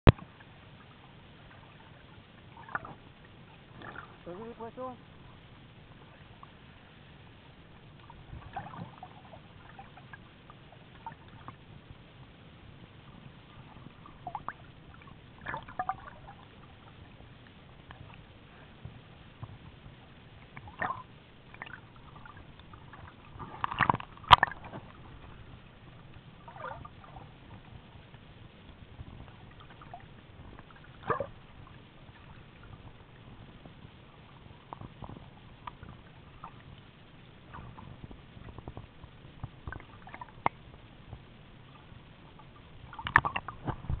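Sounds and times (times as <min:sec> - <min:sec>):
underwater water rush: 0:00.0 - 0:44.0
clicks and gurgling sloshes: 0:00.1 - 0:12.0, 0:13.0 - 0:44.0.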